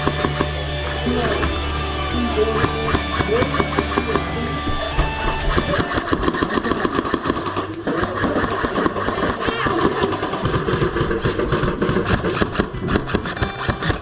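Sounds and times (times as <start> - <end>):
airsoft guns firing full-auto: 0.0 - 1.8, 2.5 - 14.0.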